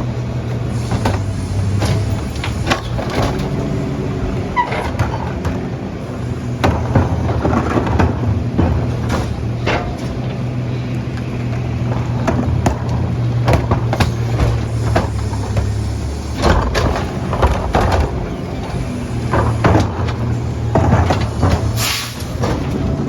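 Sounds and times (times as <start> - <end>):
garbage truck engine running: 0.0 - 23.0
knocks and bangs: 0.9 - 10.5, 11.2 - 23.0.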